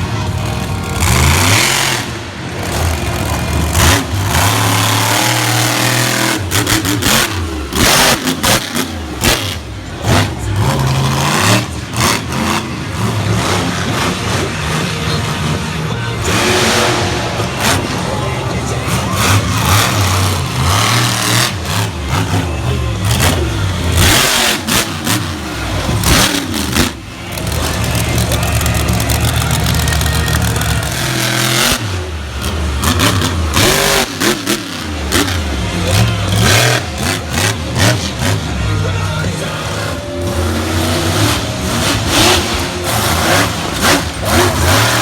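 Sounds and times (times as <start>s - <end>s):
truck engine revving hard: 0.0s - 45.0s.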